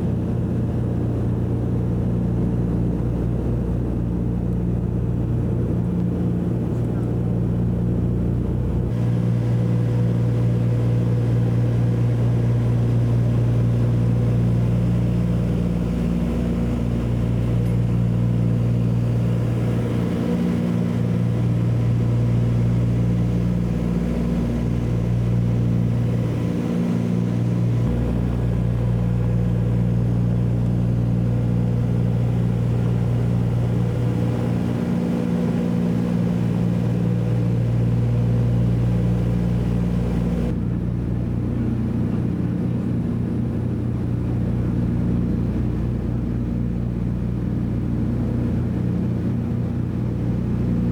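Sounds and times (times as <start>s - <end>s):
propeller plane engines droning: 0.0s - 50.9s.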